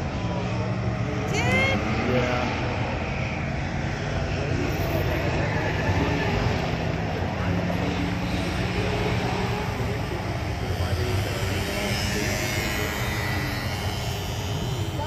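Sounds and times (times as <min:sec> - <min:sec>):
racing car engines rumbling: 0:00.0 - 0:15.0.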